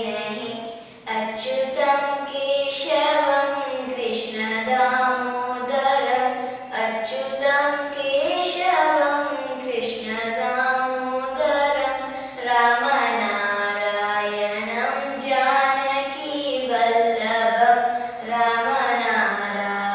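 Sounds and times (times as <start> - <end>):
girl singing unaccompanied: 0.0 - 19.9.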